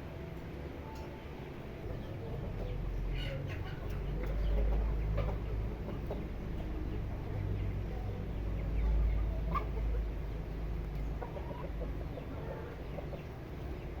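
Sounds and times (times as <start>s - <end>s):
chickens clucking: 1.4s - 14.0s.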